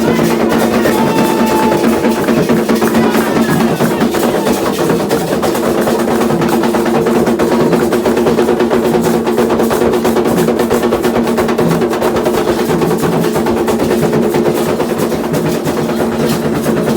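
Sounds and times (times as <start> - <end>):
hand drums in fast rhythm: 0.0 - 16.9.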